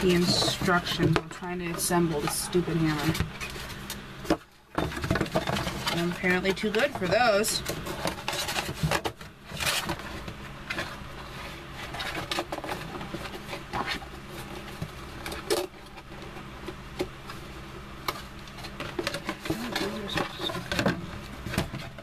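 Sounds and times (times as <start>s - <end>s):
cardboard rustling and scraping: 0.0s - 22.0s.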